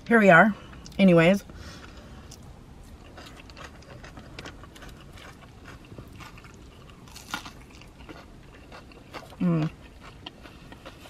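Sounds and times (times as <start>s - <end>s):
person chewing food: 1.8s - 11.0s.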